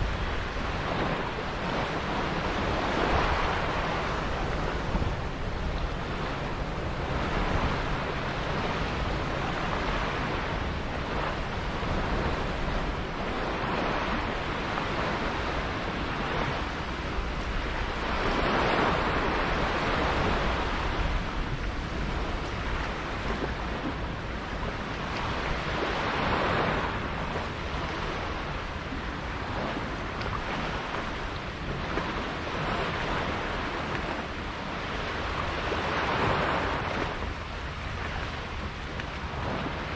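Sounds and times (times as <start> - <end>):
sea water washing: 0.0 - 39.9
wind buffeting microphone: 0.0 - 39.9.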